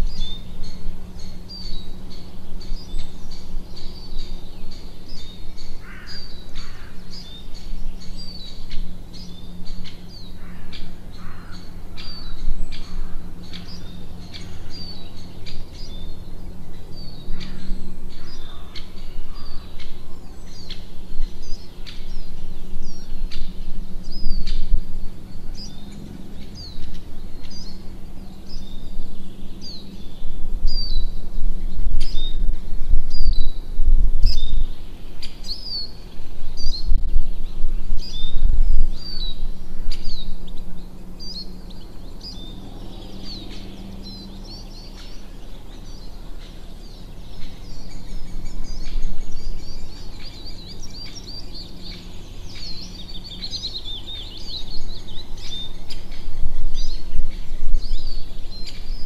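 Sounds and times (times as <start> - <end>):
small birds chirping: 0.0 - 59.0
steady low hum: 0.0 - 59.0.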